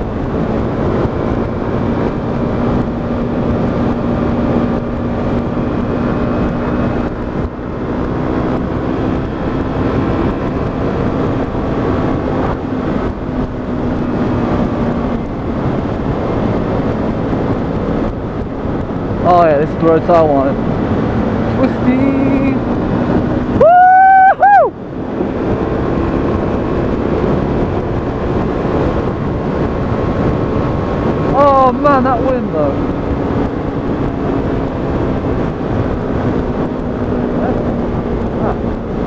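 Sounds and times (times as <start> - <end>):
motorcycle engine running: 0.0 - 39.0
wind rush over microphone: 0.0 - 39.0.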